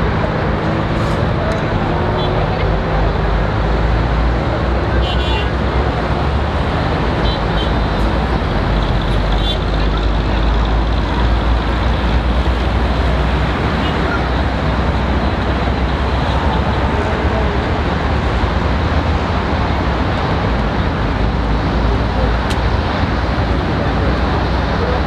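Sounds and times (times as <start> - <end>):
crowd murmuring: 0.0 - 25.0.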